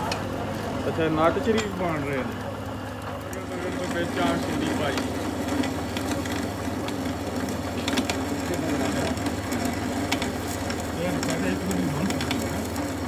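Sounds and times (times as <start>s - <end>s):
metal lathe humming: 0.0s - 13.0s.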